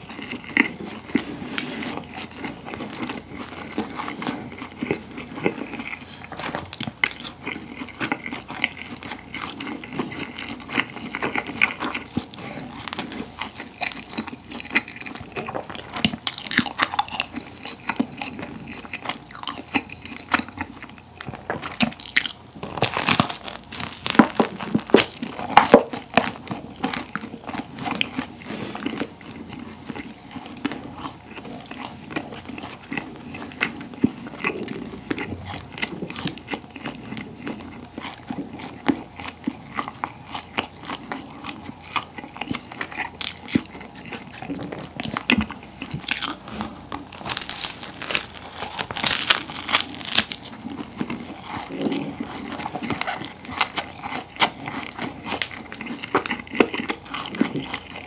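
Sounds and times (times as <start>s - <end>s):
crunching bread crust: 0.0s - 58.0s.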